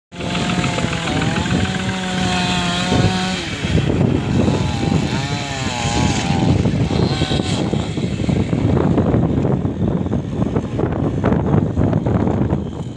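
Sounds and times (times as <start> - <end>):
steady engine-like hum: 0.1 - 12.9
storm wind buffeting microphone: 0.2 - 12.9.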